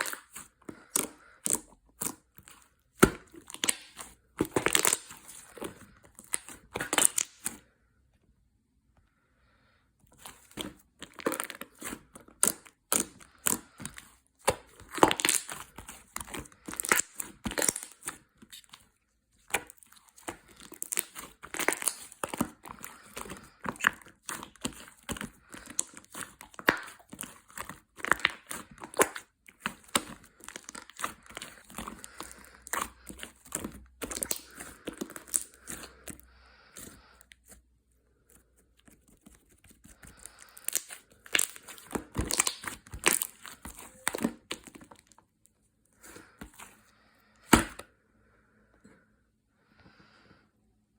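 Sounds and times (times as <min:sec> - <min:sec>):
crinkling and tearing: 0:00.0 - 0:07.6, 0:10.2 - 0:37.6, 0:38.3 - 0:45.2.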